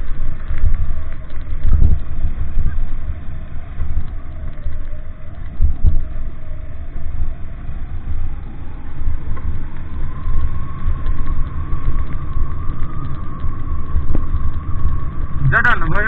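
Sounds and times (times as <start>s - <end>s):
faint engine whine rising: 0.0s - 16.0s
vehicle engine rumbling: 0.0s - 16.0s.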